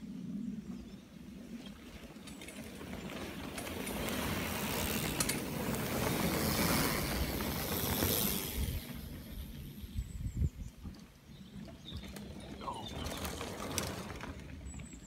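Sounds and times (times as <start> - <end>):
bike tyres rolling over leaves: 1.6 - 10.0, 11.0 - 15.0.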